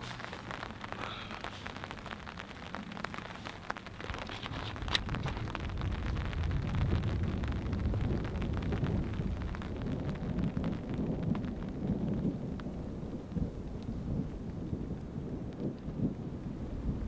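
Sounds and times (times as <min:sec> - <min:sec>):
distant thunder rumbling: 0:00.0 - 0:17.0
raindrops ticking: 0:00.0 - 0:17.0.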